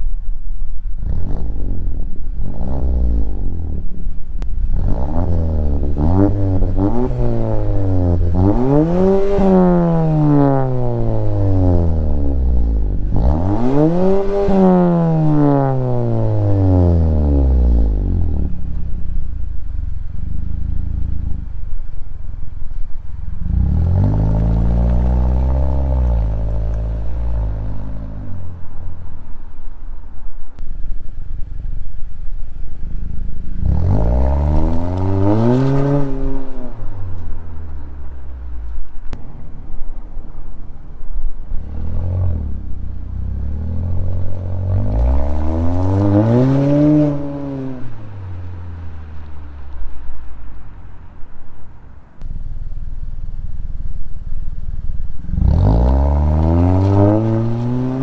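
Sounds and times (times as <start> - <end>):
car engine idling: 0.0 - 58.0
car engine revving: 0.8 - 58.0.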